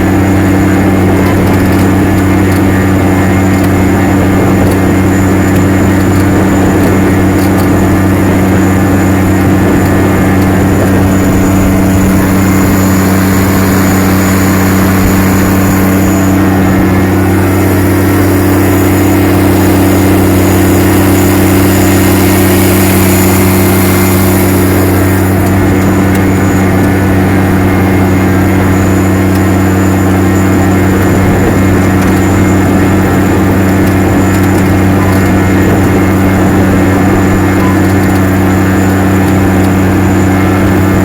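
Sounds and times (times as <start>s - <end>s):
tractor engine running under load: 0.0s - 41.0s.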